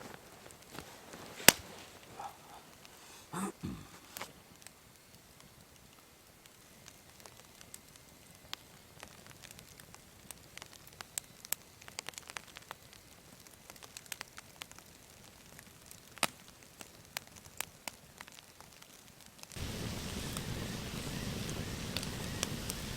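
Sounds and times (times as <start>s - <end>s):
campfire crackling: 0.0s - 22.9s
faint hiss: 0.0s - 22.9s.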